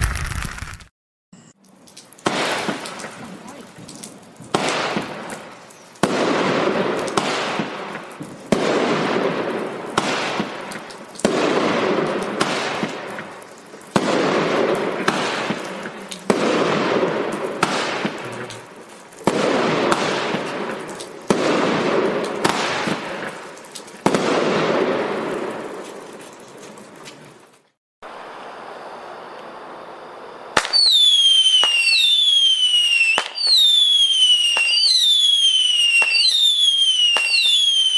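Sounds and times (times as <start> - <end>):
fireworks bangs with crackle: 0.0 - 0.9, 2.2 - 27.4, 30.6 - 37.9.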